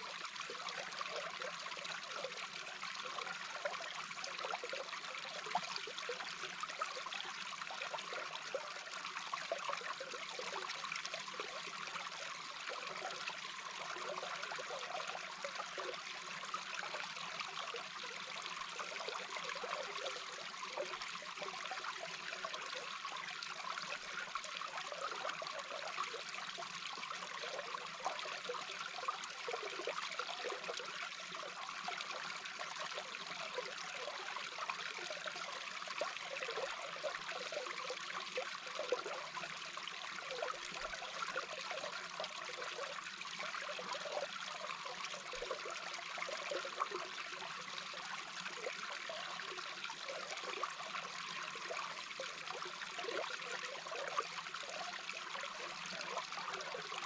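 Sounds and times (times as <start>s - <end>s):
bubbling and trickling: 0.0s - 57.0s
underwater flowing water: 0.0s - 57.0s.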